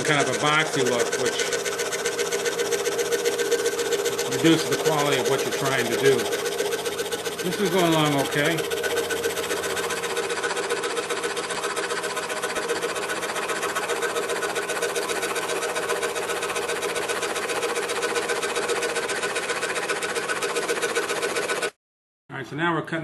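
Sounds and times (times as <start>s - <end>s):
scroll saw cutting wood: 0.0s - 21.8s.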